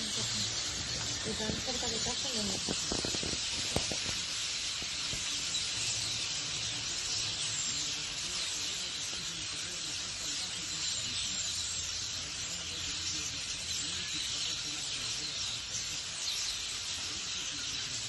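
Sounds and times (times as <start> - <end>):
starlings chattering: 0.0 - 18.0.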